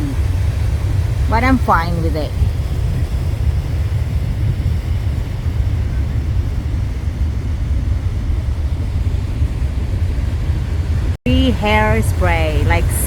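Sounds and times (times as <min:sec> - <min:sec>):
heavy surf rumbling: 0:00.0 - 0:13.0
wind buffeting microphone: 0:00.0 - 0:13.0.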